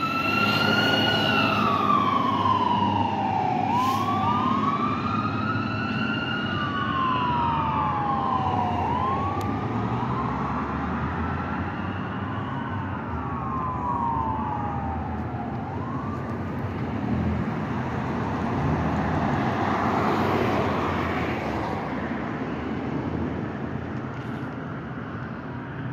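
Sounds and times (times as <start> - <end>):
fire engine siren wailing: 0.0 - 23.8
street traffic noise: 0.0 - 25.9.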